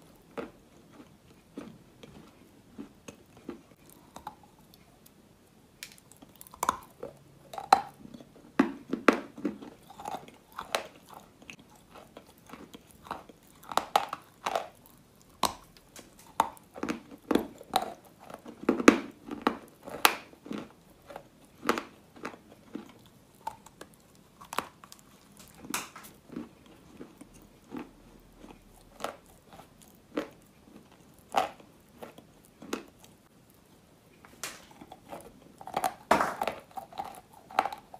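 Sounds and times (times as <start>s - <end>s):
crunching while chewing chalk: 0.0s - 5.2s, 5.8s - 37.9s.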